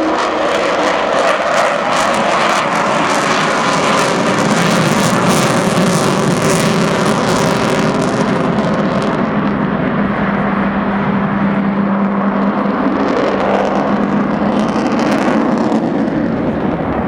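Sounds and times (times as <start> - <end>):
loud jet engine noise: 0.0 - 17.0
low drone: 0.0 - 17.0.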